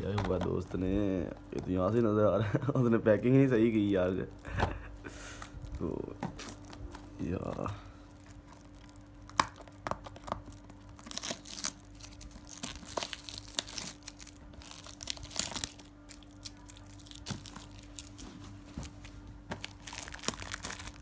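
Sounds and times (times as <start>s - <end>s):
foil wrapping paper crinkling: 0.0s - 21.0s.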